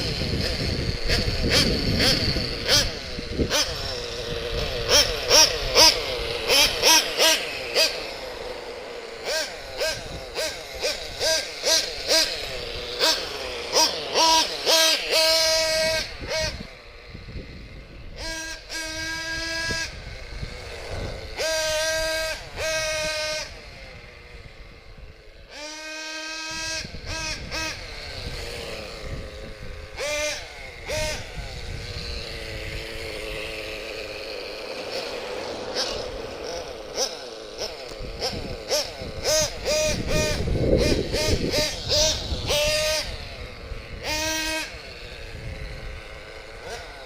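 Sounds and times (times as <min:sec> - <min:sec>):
rc truck nitro engine revving: 0:00.0 - 0:47.0.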